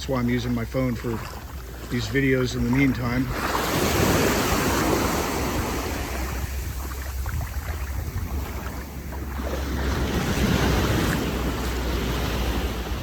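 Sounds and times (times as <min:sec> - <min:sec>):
sea waves washing onto beach: 0:00.0 - 0:13.0
wind rumbling on microphone: 0:00.0 - 0:13.0.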